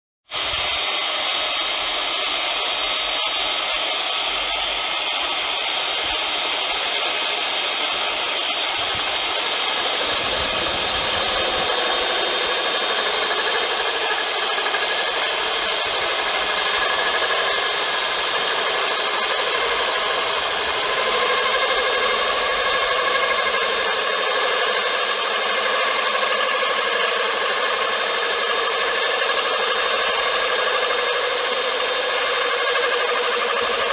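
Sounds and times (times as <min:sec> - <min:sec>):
core drill grinding porcelain: 0:00.3 - 0:33.9.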